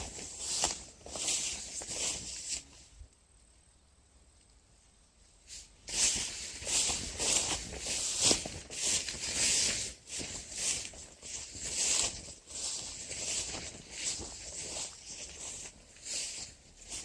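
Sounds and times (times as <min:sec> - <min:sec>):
foliage rustling: 0:00.0 - 0:03.0, 0:05.4 - 0:17.0.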